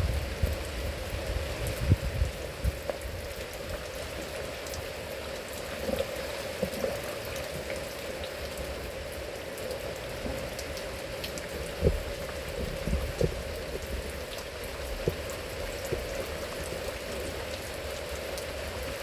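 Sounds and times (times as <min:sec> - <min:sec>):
steady rain: 0:00.0 - 0:19.0
faint drips: 0:02.6 - 0:19.0.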